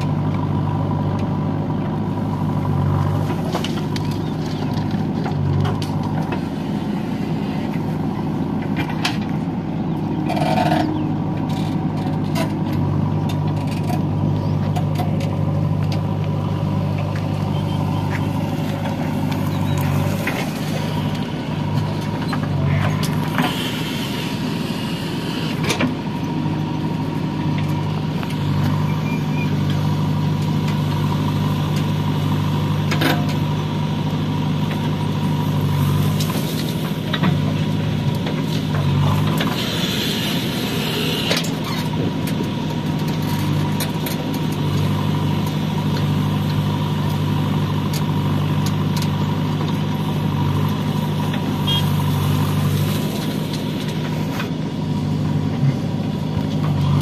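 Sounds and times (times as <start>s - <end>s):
heavy machine engine running: 0.0s - 57.0s.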